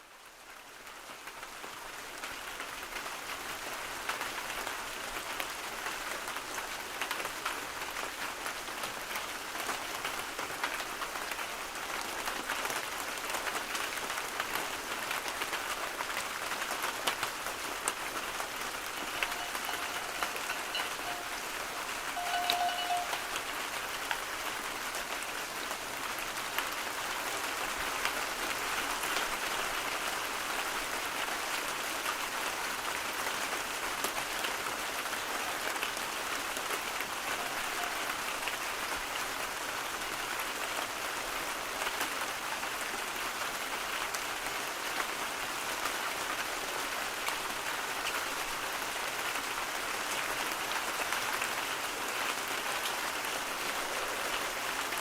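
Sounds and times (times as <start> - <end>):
dense rain pattering: 0.0 - 55.0.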